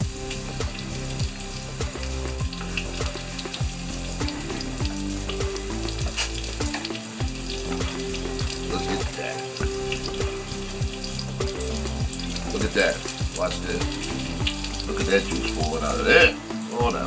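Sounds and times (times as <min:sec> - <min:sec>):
crackling hiss: 0:00.0 - 0:17.0
music with steady thumping beat: 0:00.0 - 0:17.0.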